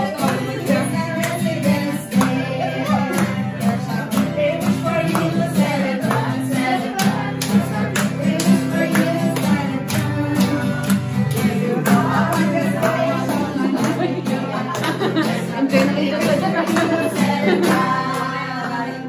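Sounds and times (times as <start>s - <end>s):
hand claps: 0.0s - 18.6s
strummed acoustic guitar: 0.0s - 19.0s
women singing together: 0.0s - 19.0s.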